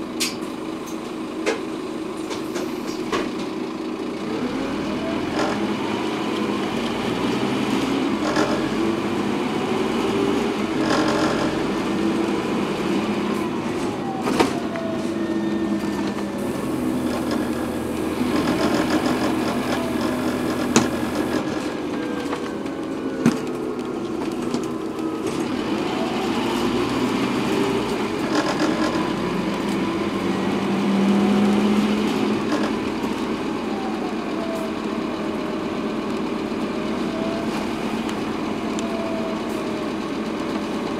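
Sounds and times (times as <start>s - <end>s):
bus engine running: 0.0s - 40.9s
road rumble: 0.0s - 40.9s
engine whine gliding: 4.0s - 40.9s.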